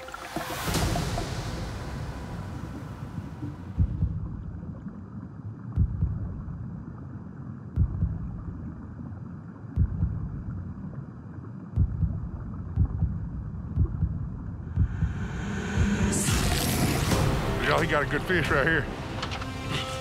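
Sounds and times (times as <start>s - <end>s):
low underwater thuds: 0.0s - 7.1s, 7.7s - 19.6s.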